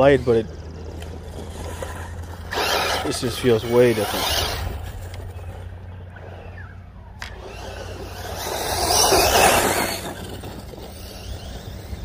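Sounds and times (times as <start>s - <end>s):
rc buggy electric motor: 0.0s - 12.0s.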